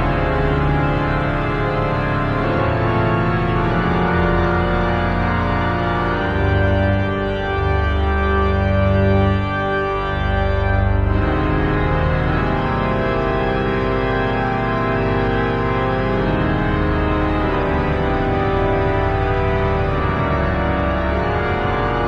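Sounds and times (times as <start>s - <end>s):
pipe organ chords: 0.0s - 22.0s.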